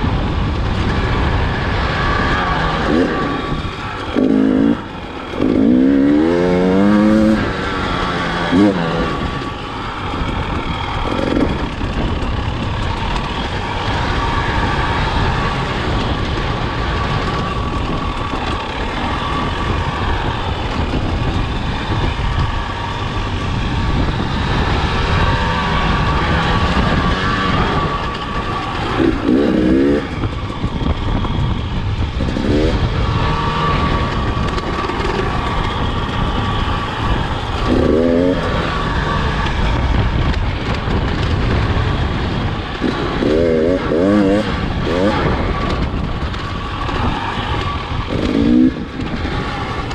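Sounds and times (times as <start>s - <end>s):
dirt bike engine at speed: 0.0s - 49.9s.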